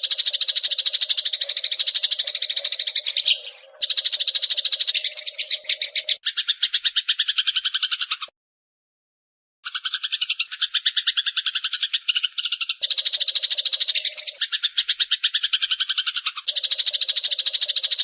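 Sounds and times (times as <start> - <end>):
sparrows chattering harshly: 0.0 - 8.3, 9.6 - 18.0.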